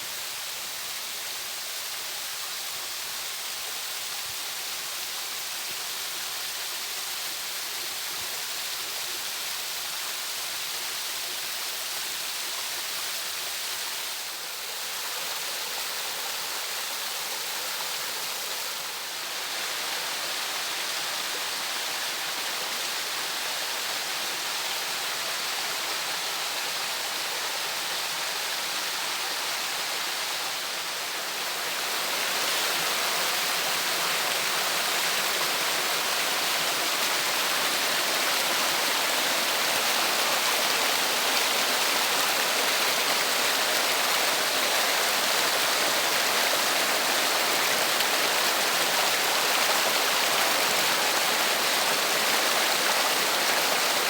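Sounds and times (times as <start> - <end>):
water rushing down a cascade: 0.0 - 54.0.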